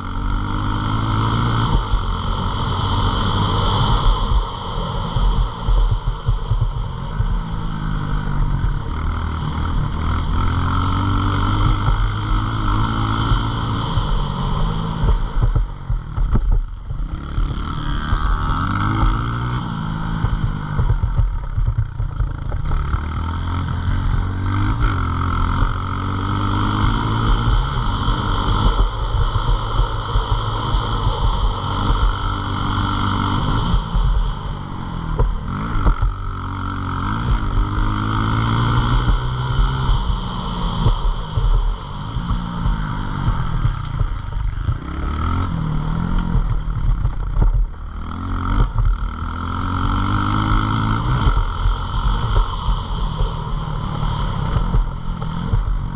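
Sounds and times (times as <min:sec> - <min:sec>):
small motorbike engine revving: 0:07.2 - 0:55.9.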